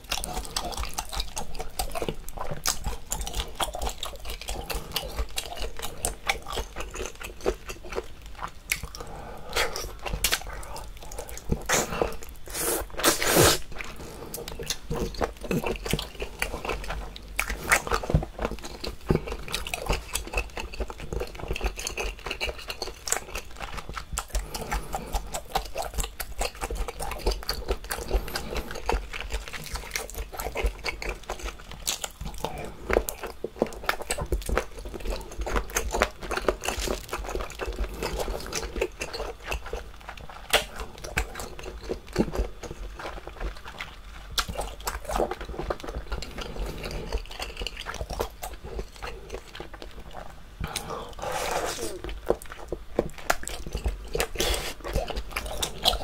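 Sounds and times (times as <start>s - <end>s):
wet chewing and mouth clicks: 0.0s - 56.0s.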